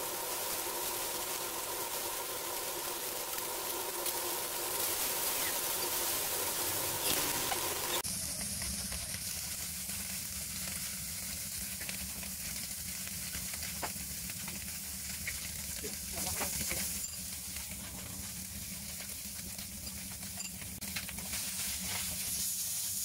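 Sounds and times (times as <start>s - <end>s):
fish sizzling in oil: 0.0s - 23.0s
oil crackles: 0.0s - 23.0s.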